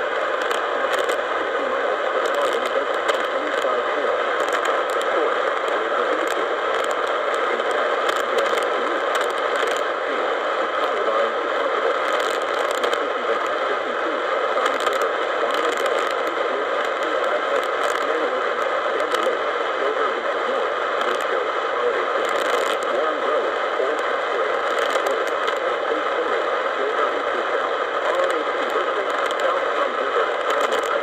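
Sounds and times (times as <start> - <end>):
radio static crackles: 0.0 - 31.0
radio static hiss: 0.0 - 31.0.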